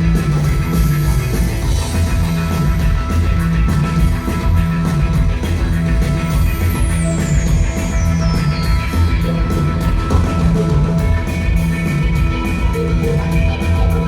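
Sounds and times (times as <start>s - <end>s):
fuzz rock band playing: 0.0s - 14.0s.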